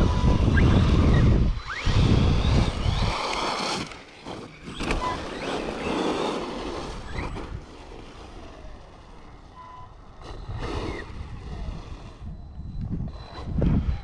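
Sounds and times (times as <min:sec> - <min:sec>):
rc truck motor whining: 0:00.0 - 0:14.0
tire noise: 0:00.0 - 0:14.0
wind noise: 0:00.0 - 0:14.0.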